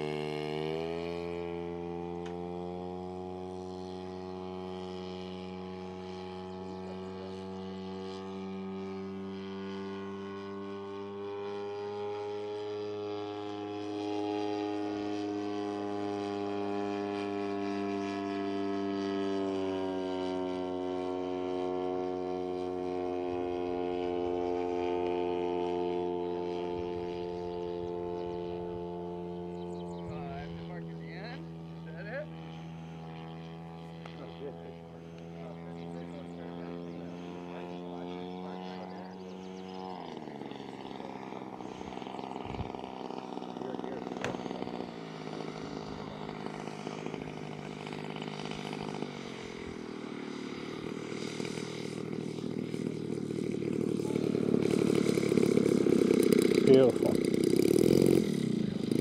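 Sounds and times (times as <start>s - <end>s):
model airplane engine droning: 0.0s - 59.0s.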